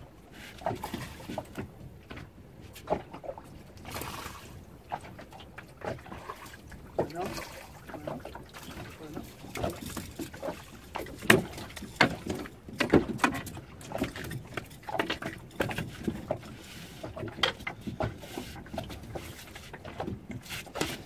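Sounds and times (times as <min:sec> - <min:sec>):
water slapping against boat hull: 0:00.0 - 0:21.0.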